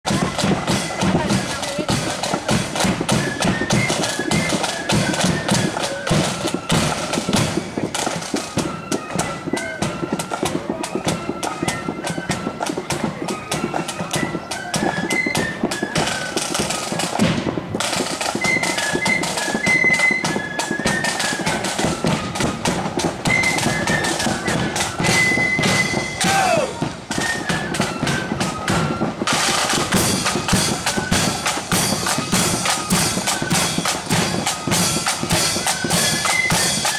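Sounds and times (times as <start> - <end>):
flutes playing a melody: 0.0 - 36.9
snare and bass drum beats: 0.0 - 36.9.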